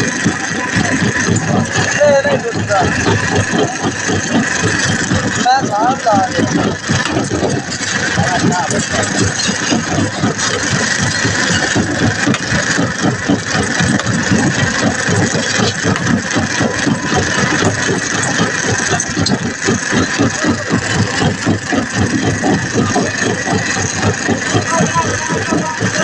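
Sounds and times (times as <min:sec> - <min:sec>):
excavator engine pulsing: 0:00.0 - 0:26.0.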